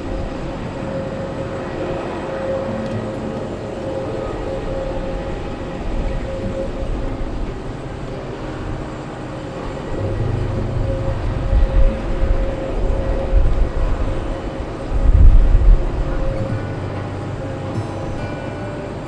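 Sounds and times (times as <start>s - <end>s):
jet airliner drone: 0.0s - 19.0s
mid-pitched tone: 0.0s - 19.0s
uneven low rumble: 0.0s - 19.0s.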